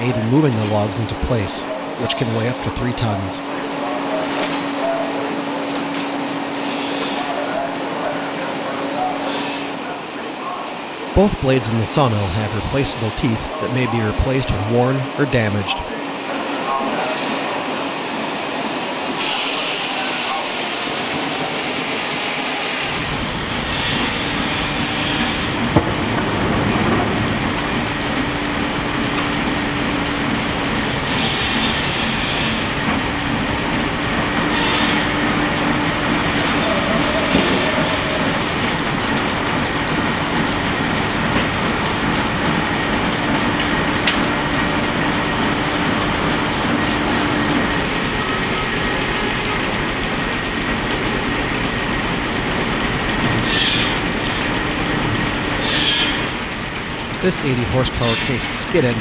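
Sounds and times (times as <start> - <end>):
sawmill machinery clatter: 0.0 - 59.0
steady machine hum: 0.0 - 59.0.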